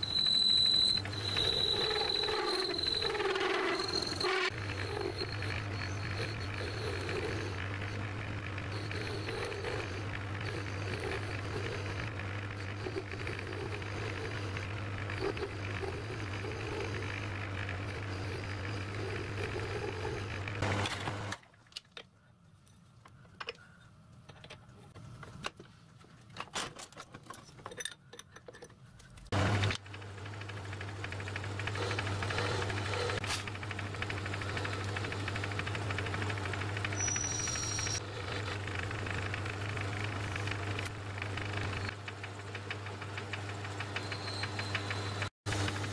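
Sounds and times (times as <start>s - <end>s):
metal lathe motor hum: 0.0s - 21.2s, 29.4s - 45.9s
small clicks and scrapes: 0.2s - 45.8s.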